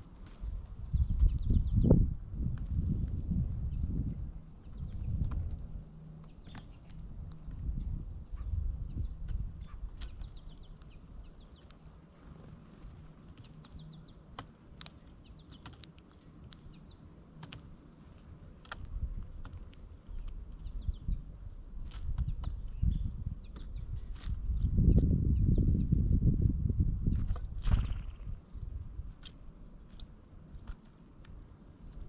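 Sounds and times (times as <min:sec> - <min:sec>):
small birds calling: 0:00.0 - 0:26.6, 0:27.3 - 0:32.0.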